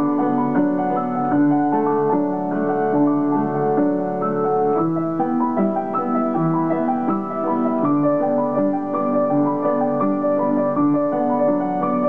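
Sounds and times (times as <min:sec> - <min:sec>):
solo piano music: 0:00.0 - 0:12.0.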